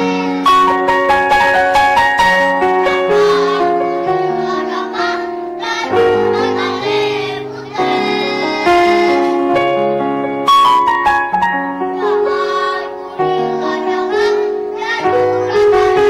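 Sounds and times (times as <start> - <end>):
children's choir singing: 0.0 - 10.0, 11.8 - 16.0
musical accompaniment: 0.0 - 16.0.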